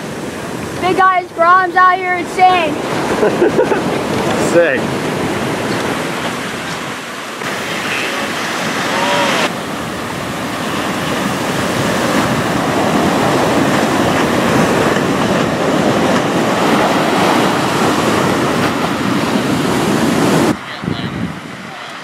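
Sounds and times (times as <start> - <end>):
surf breaking on beach: 0.0 - 22.0.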